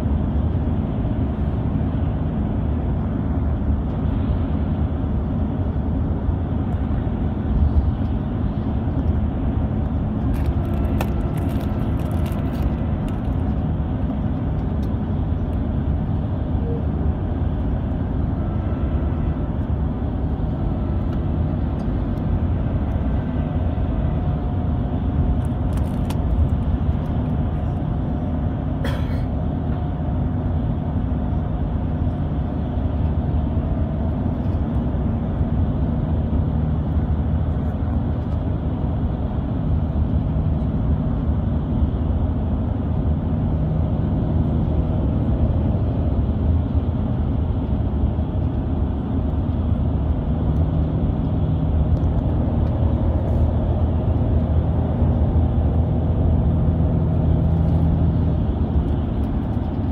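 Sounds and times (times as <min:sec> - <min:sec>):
coach engine and tyre drone: 0:00.0 - 0:59.9.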